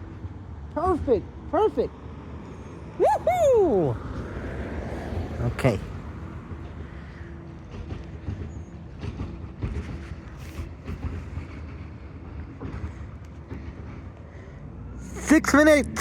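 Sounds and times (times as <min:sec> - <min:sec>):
road vehicle rumbling: 0:00.0 - 0:16.0.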